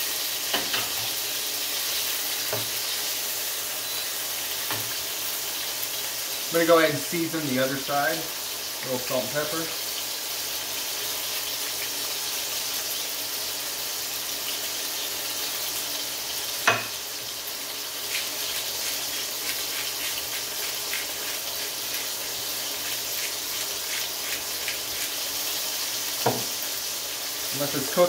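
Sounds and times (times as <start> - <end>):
chicken sizzling in oil: 0.0 - 28.0.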